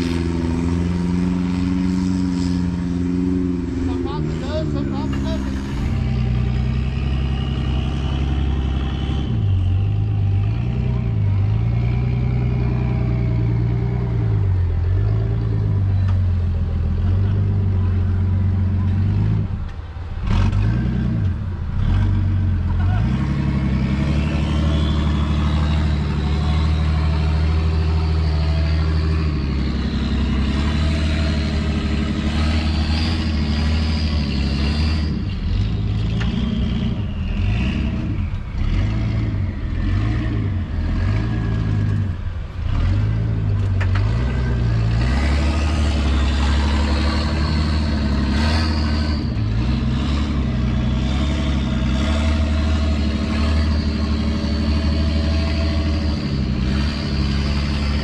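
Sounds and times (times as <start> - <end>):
engine revving under load: 0.0 - 58.0.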